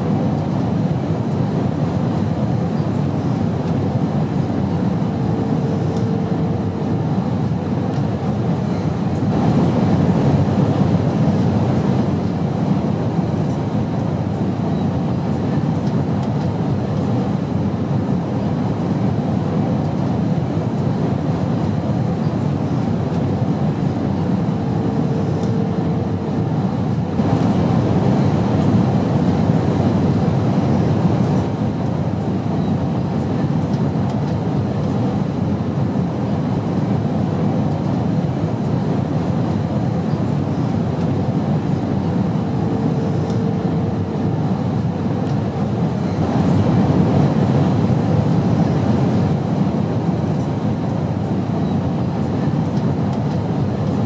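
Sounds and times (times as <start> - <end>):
airplane drone in flight: 0.0 - 54.0.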